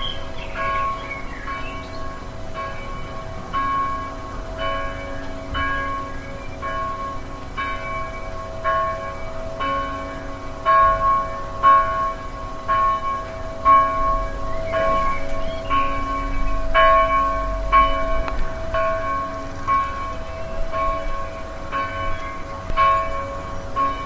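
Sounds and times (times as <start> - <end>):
church bell tolling: 0.0 - 24.0.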